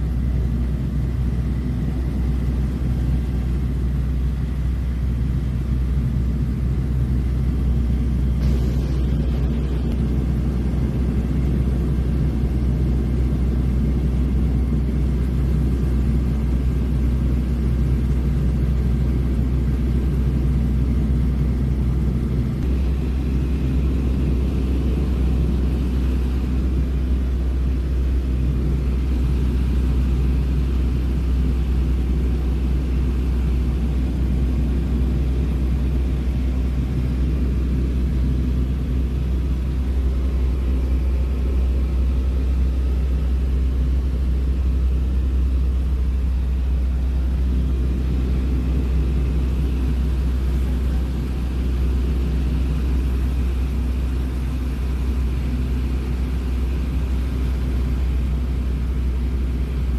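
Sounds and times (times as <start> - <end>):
propeller airplane engine droning: 0.0 - 59.9.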